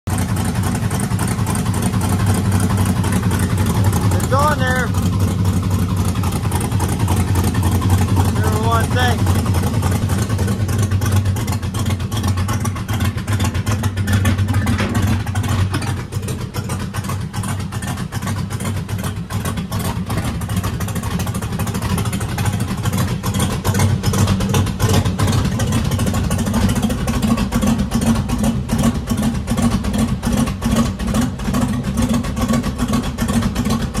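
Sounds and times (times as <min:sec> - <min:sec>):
vee eight engine running: 0:00.1 - 0:34.0.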